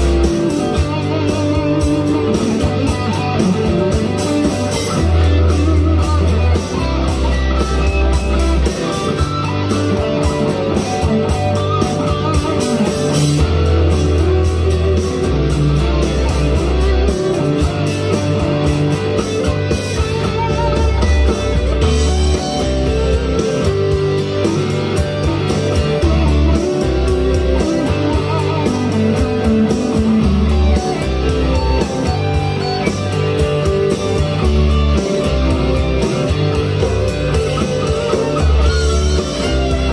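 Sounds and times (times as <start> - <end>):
electric guitar through an amp: 0.0 - 39.9
rock backing track: 0.0 - 39.9.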